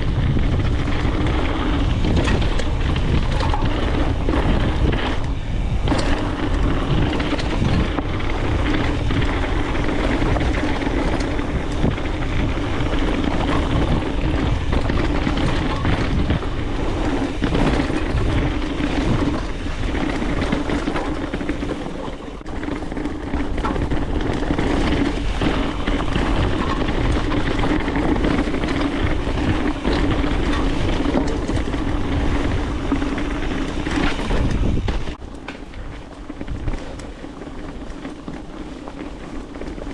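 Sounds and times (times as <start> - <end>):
mountain bike rolling and rattling: 0.0 - 39.9
wind on microphone: 0.0 - 39.9.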